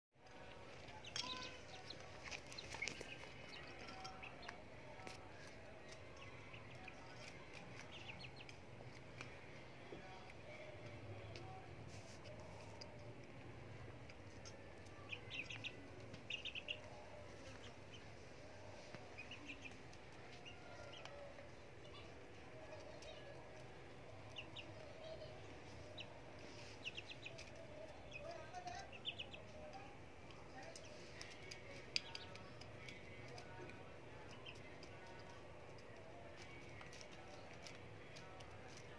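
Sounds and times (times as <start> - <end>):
faint bird chirping: 0.2 - 8.6, 12.3 - 35.2
chickens pecking clicks: 0.2 - 17.7, 19.2 - 28.2, 28.8 - 38.9.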